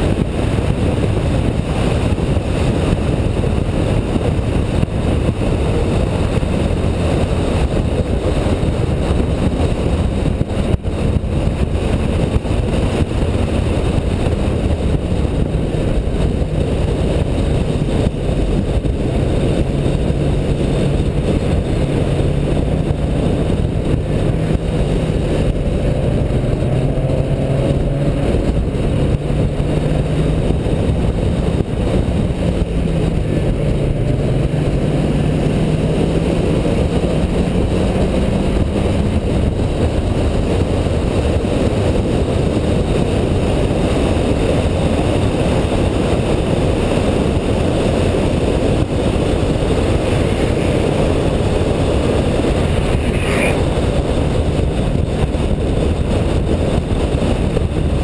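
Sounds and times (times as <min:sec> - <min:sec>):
car engine running hard: 0:00.0 - 0:58.0
road and wind noise: 0:00.0 - 0:58.0.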